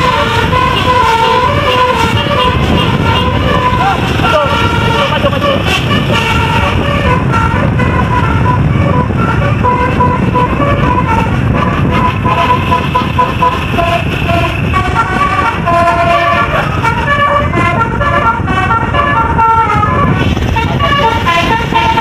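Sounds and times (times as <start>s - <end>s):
multi-tone bus air horn melody: 0.0s - 22.0s
steady low rumble: 0.0s - 22.0s.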